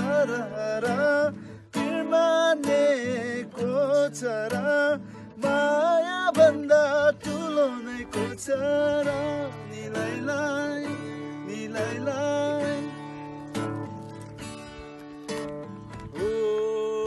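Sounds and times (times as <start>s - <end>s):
man singing: 0.0s - 13.6s, 16.0s - 17.0s
acoustic guitar strumming: 0.0s - 17.0s.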